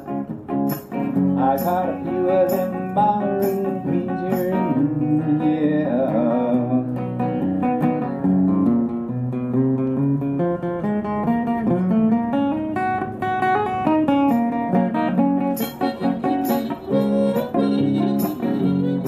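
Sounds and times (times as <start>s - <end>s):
acoustic guitar picking and strumming: 0.0s - 19.0s.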